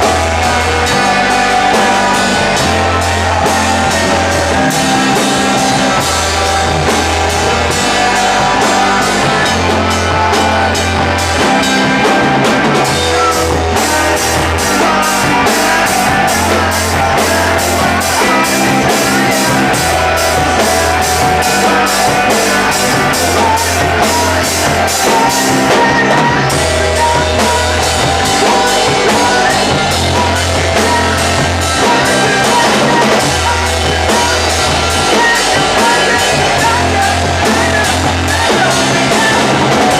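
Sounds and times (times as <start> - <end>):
bass line: 0.0 - 39.9
drum kit beat: 0.0 - 39.9.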